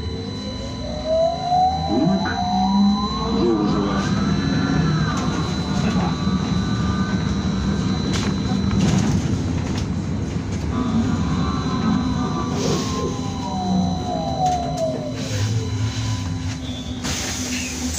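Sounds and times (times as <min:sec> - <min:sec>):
constant high whine: 0:00.0 - 0:17.9
electric traction drive whining: 0:00.0 - 0:17.9
steady rumble: 0:01.9 - 0:17.0.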